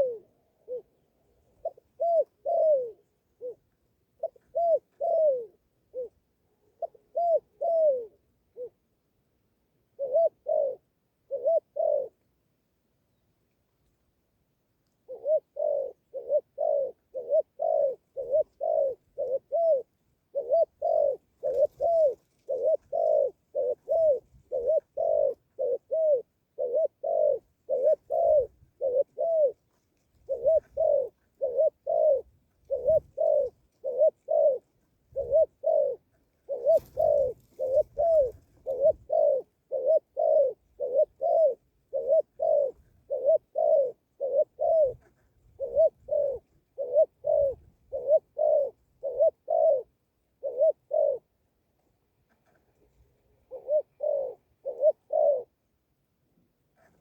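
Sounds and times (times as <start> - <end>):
bird cooing hoots: 0.0 - 8.9, 9.8 - 12.2, 15.0 - 51.4, 52.5 - 55.7.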